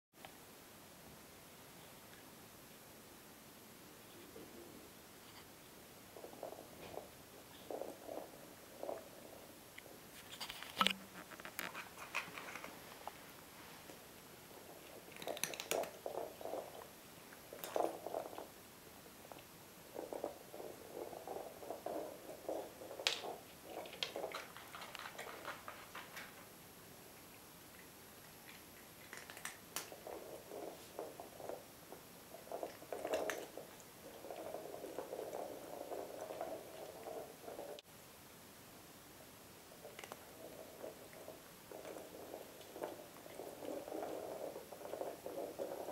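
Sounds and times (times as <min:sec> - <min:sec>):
cats playing with toys on carpet: 0:04.0 - 0:37.9, 0:39.3 - 0:45.9
ball rolling on laminate floor: 0:06.0 - 0:26.6, 0:27.7 - 0:37.9, 0:39.6 - 0:45.9.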